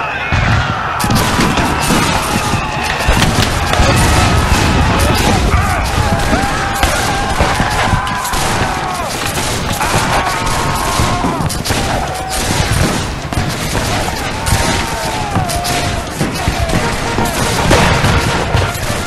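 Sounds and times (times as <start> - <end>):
men yelling: 0.0 - 19.0
rifles firing: 0.4 - 19.0.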